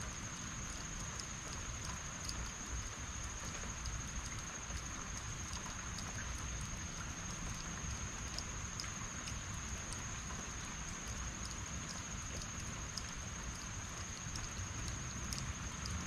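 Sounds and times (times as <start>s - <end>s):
heavy rain hiss: 0.0s - 16.0s
raindrop ticks: 0.0s - 16.0s.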